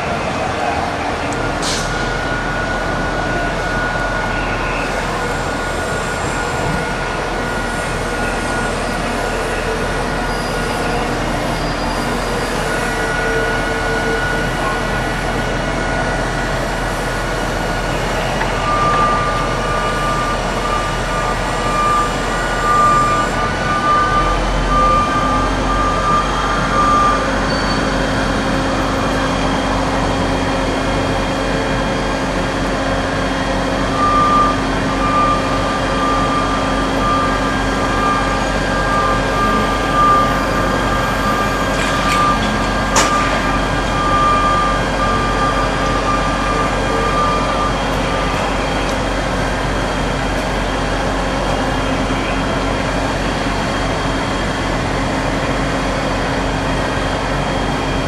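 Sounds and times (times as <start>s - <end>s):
backup warning alarm beeping: 0.0s - 31.4s, 33.2s - 53.5s
heavy machinery running: 0.0s - 58.0s.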